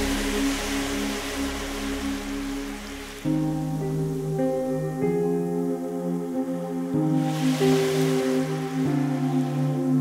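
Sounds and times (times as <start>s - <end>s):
ambient music with soft chords: 0.0s - 10.0s.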